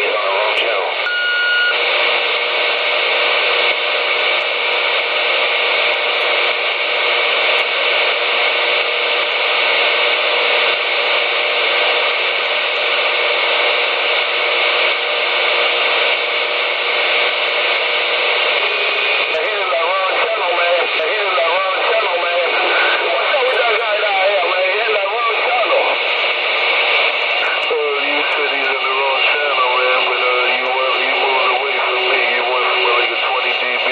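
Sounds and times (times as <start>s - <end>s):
faint steady hum: 0.0s - 33.9s
radio static hiss: 0.0s - 33.9s.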